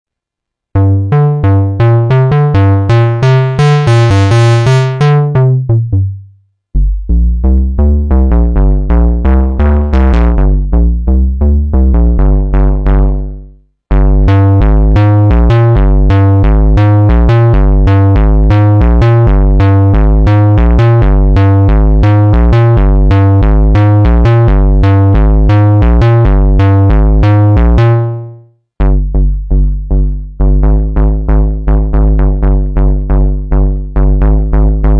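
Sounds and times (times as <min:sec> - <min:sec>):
synthesizer bass notes: 0:00.7 - 0:34.9.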